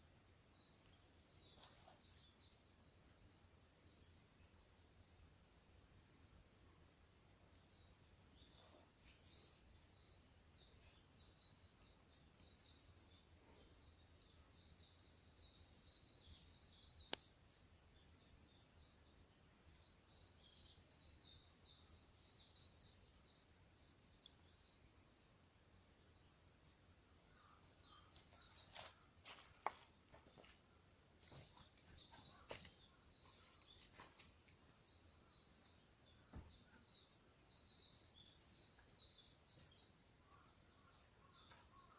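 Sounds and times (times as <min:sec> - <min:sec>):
small birds twittering: 0:00.0 - 0:41.9.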